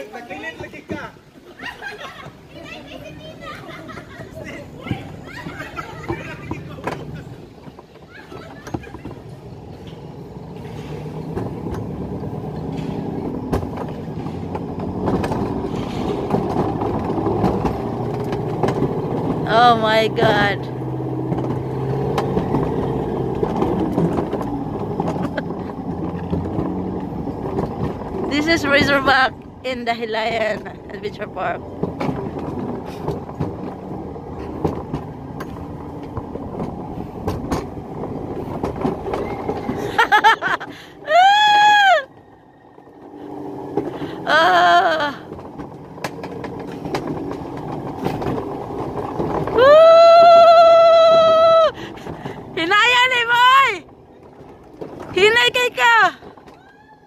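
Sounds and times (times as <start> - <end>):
coaster wheels humming on rail: 0.0 - 57.0.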